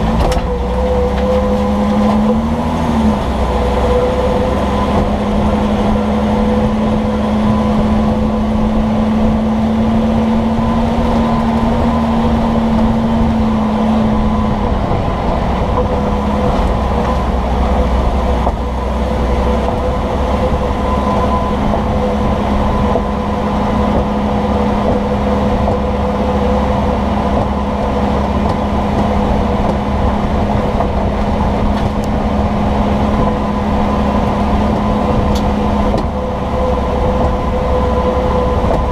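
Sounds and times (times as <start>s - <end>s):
low vehicle drone: 0.0s - 38.9s
road and tyre noise: 0.0s - 38.9s.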